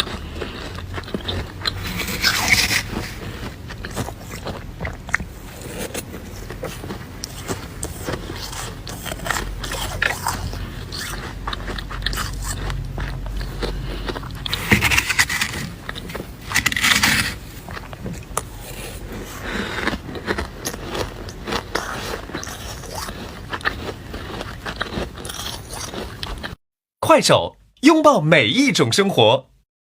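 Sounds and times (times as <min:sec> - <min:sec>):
frost being crunched by chewing: 0:00.0 - 0:26.6.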